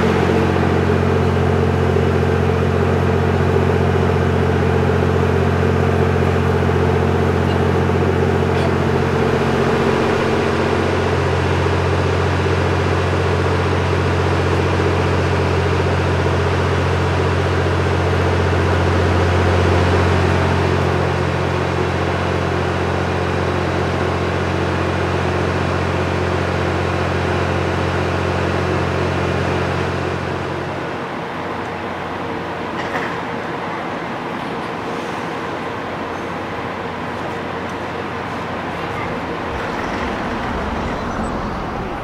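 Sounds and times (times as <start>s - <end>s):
diesel train idling hum: 0.0s - 24.6s, 31.2s - 42.0s.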